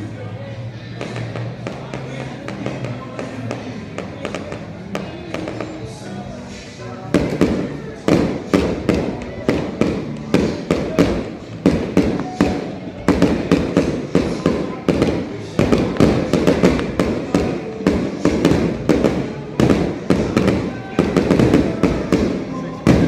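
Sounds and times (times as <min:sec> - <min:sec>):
fireworks bursting with bangs: 0:01.0 - 0:05.9, 0:07.1 - 0:23.0.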